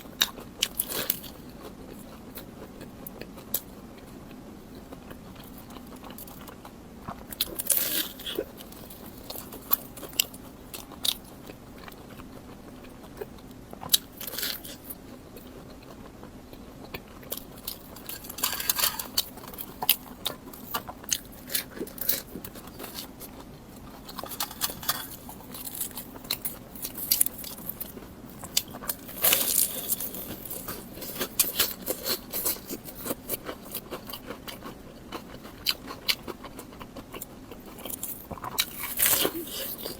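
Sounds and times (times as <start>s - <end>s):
person biting and chewing food: 0.1s - 39.9s.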